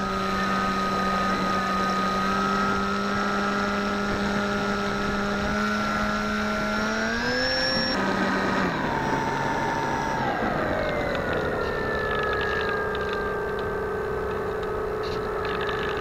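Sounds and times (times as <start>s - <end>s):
electric propeller motor drone: 0.0s - 16.0s.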